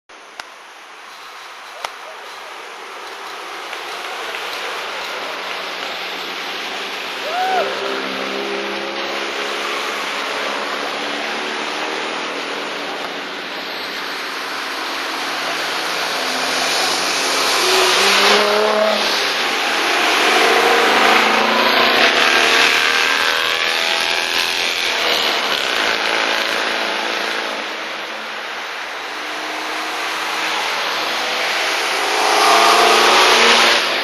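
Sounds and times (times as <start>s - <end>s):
cars accelerating past: 2.9s - 34.0s.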